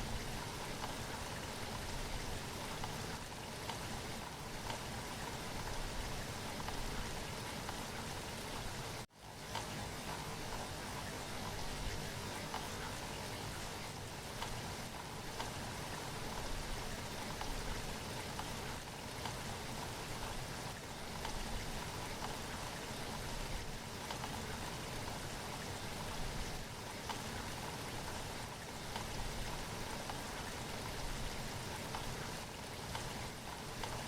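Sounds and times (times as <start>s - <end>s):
raindrops pattering on surfaces: 0.0s - 34.0s
steady rain falling: 0.0s - 34.0s.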